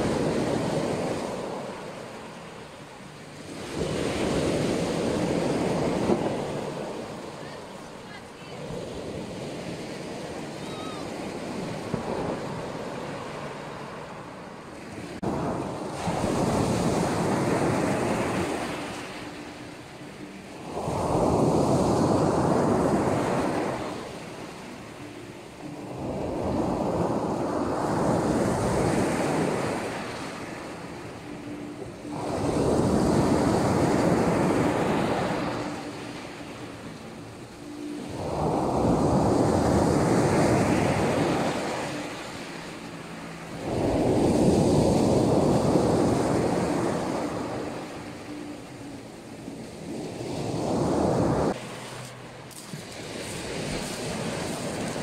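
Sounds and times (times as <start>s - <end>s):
sea waves washing ashore: 0.0s - 55.0s.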